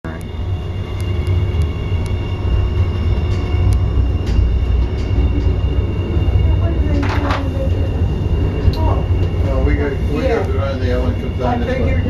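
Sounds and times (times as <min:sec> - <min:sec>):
funicular car rumbling on track: 0:00.0 - 0:12.0.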